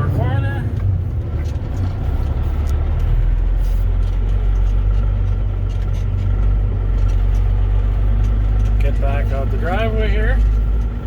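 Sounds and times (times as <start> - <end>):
diesel truck engine droning: 0.0 - 11.0.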